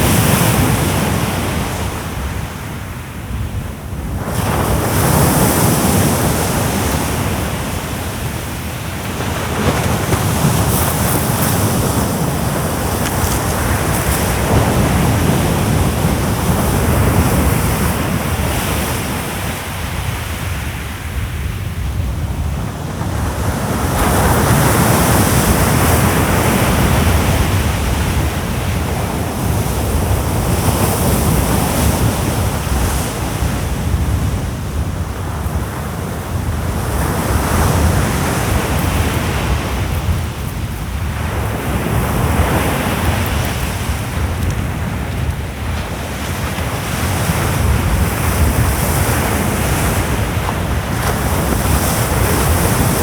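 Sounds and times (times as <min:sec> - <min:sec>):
sea surf breaking: 0:00.0 - 0:53.0
wind rumbling on microphone: 0:00.0 - 0:53.0.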